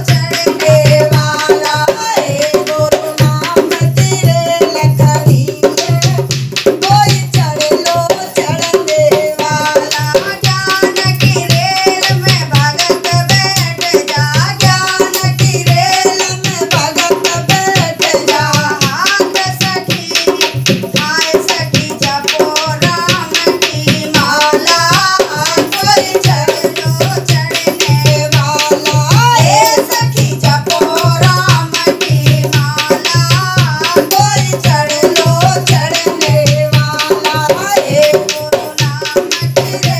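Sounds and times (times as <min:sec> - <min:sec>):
fast clicking beat: 0:00.0 - 0:39.9
hand drum beats: 0:00.0 - 0:39.9
women singing devotional song: 0:00.0 - 0:39.9.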